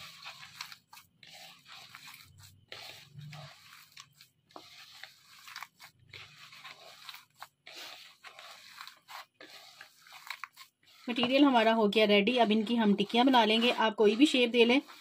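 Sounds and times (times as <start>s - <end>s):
potato mixture squishing in a bowl: 0.0s - 15.0s.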